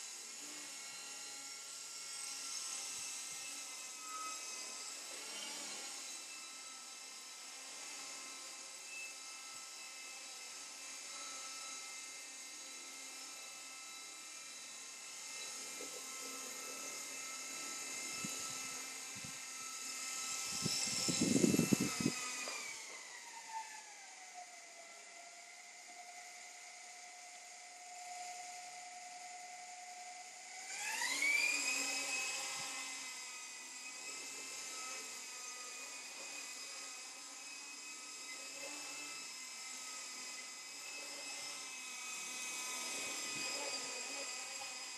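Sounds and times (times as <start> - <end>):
toy helicopter motors whining: 0.0 - 44.9.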